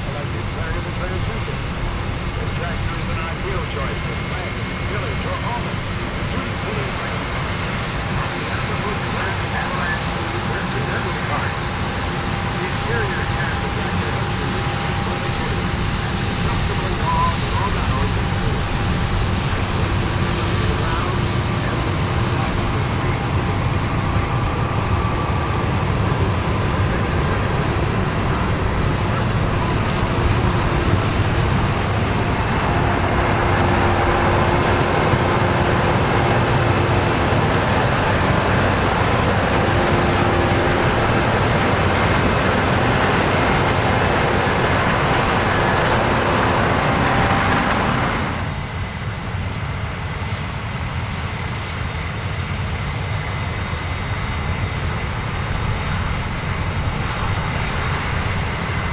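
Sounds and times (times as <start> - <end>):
diesel farm machinery roaring: 0.0 - 58.9.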